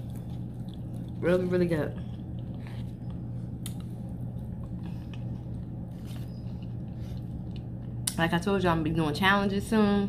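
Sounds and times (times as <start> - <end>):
person chewing food: 0.0 - 8.1
low hum: 0.0 - 10.0.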